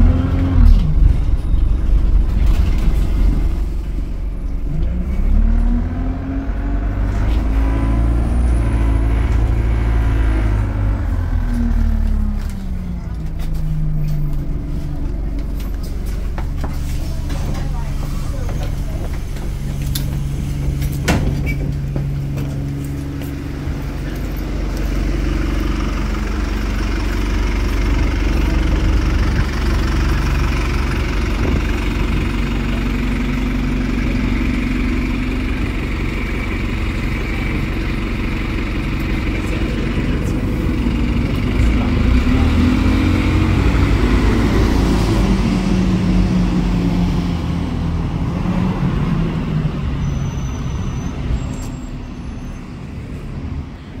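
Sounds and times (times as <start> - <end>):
bus diesel engine running: 0.0 - 54.0
bus pulling away and passing: 0.0 - 54.0.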